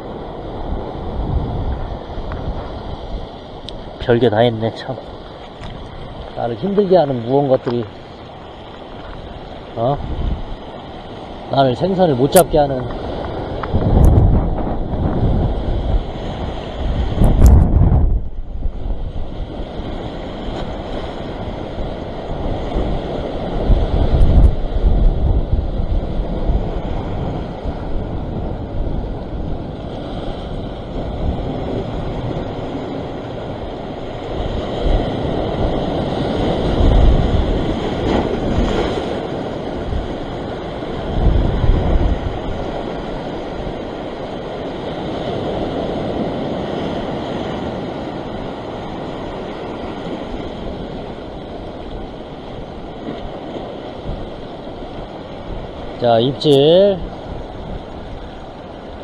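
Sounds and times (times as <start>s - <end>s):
sea waves breaking over rock: 0.0s - 59.0s
wind buffeting microphone: 0.0s - 59.0s.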